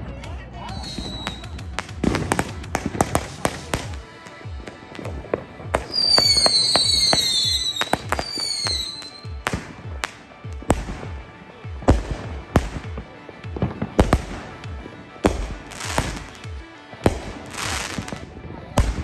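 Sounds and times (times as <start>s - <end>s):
fireworks shrill whistles: 0.7s - 11.4s, 12.0s - 18.3s
fireworks popping and banging: 0.7s - 19.0s.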